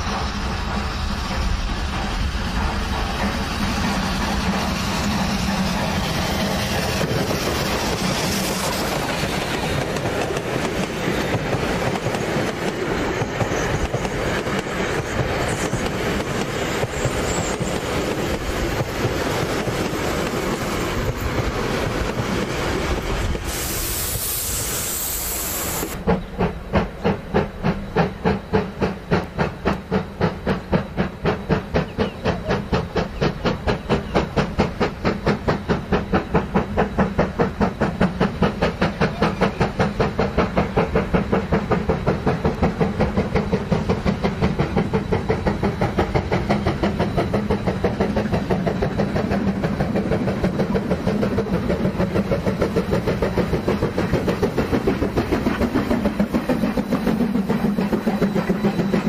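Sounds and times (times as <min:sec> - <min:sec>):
steam hiss: 0:00.0 - 0:59.0
steam locomotive exhaust beats: 0:00.0 - 0:59.0
train wheels rolling: 0:00.0 - 0:59.0.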